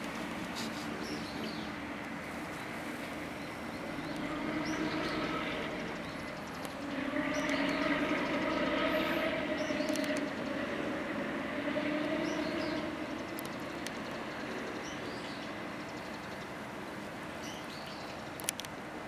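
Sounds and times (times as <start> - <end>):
vehicle droning hum: 0.0 - 18.7.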